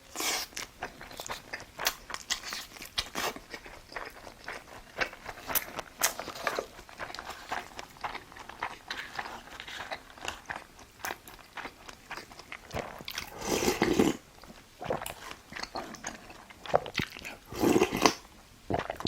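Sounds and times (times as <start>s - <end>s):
wet chewing with mouth clicks: 0.1s - 19.0s.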